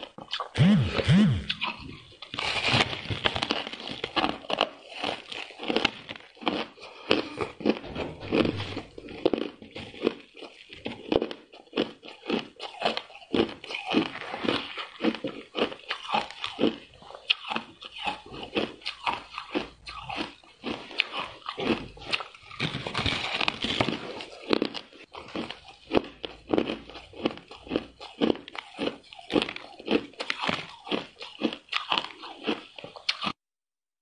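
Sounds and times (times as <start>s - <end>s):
person chewing ice crunches: 0.0s - 33.4s.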